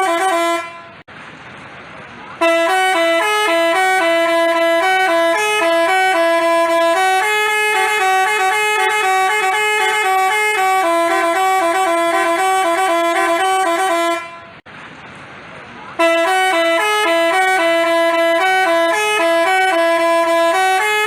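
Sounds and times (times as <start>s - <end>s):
multi-tone horn playing tune: 0.0s - 1.0s, 2.4s - 14.6s, 16.0s - 21.0s.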